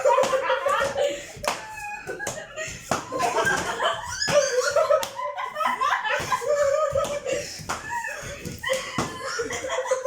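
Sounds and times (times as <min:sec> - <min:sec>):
shoe slapping a person: 0:00.0 - 0:05.2, 0:06.1 - 0:09.8
people laughing: 0:00.0 - 0:10.0.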